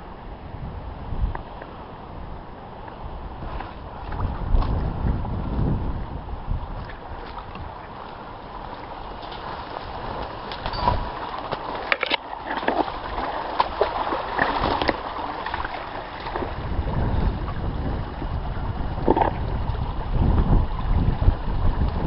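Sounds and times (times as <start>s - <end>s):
wind buffeting microphone: 0.0s - 11.9s, 12.8s - 22.0s
running stream: 0.0s - 22.0s.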